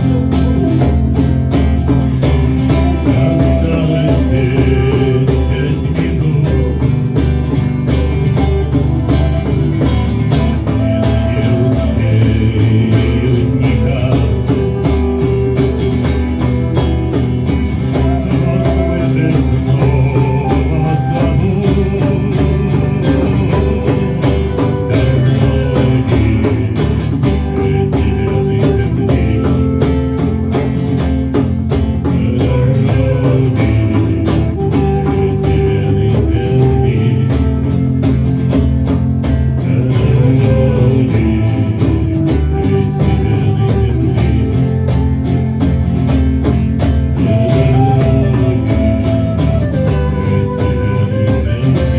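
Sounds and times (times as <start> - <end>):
live band with guitars: 0.0 - 51.9.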